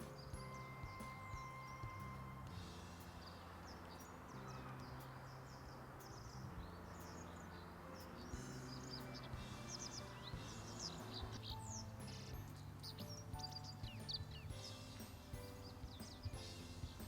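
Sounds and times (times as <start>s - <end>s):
small birds chirping: 0.0s - 17.0s
soft music of low held notes: 0.0s - 17.0s.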